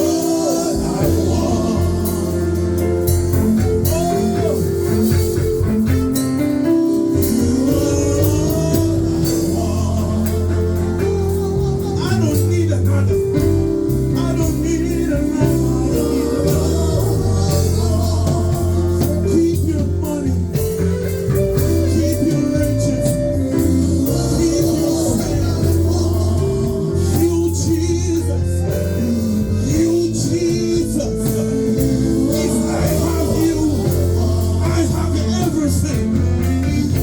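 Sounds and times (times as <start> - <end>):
people singing: 0.0 - 5.7, 6.8 - 37.0
band playing: 0.0 - 37.0.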